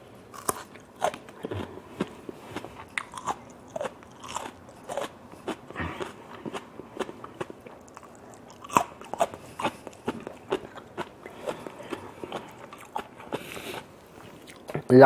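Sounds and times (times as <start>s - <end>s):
crunchy chewing: 0.2s - 14.8s.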